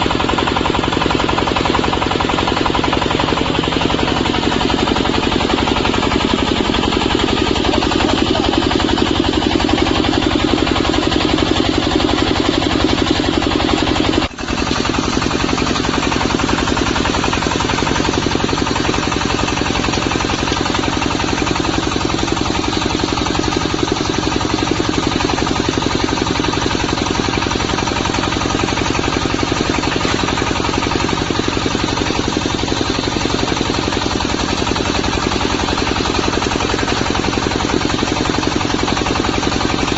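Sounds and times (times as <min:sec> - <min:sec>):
diesel engine pulsing under load: 0:00.0 - 0:39.9.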